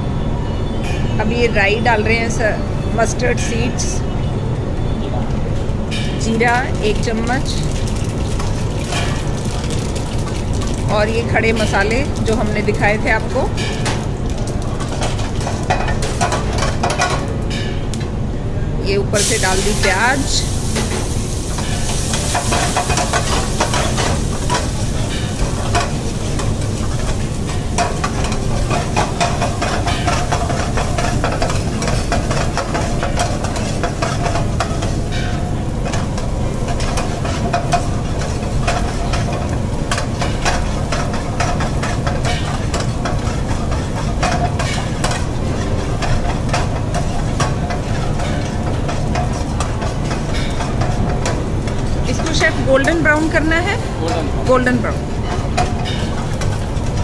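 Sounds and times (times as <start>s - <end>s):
onions sizzling in oil: 6.1s - 17.5s, 19.1s - 57.0s.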